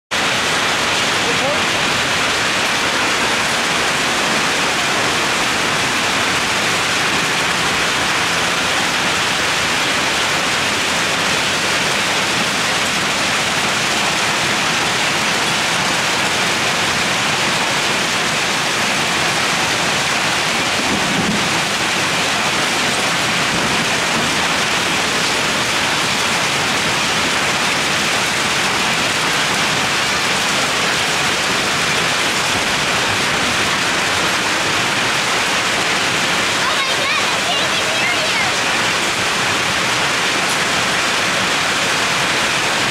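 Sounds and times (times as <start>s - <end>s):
hail and rain pelting down: 0.1s - 42.9s.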